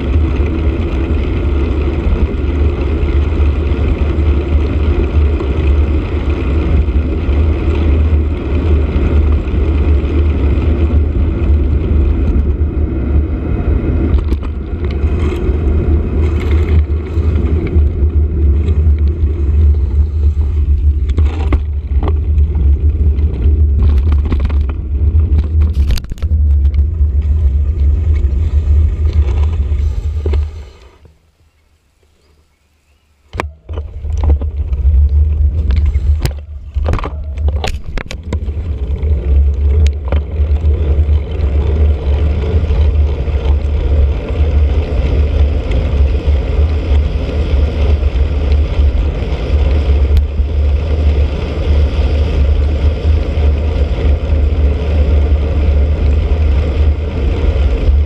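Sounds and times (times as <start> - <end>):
wind rumble and ride vibration: 0.0 - 58.0.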